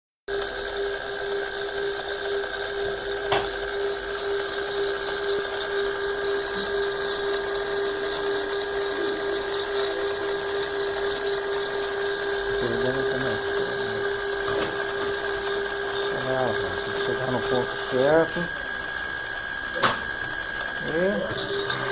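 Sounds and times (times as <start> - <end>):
spindle motor whine: 0.3 - 21.9.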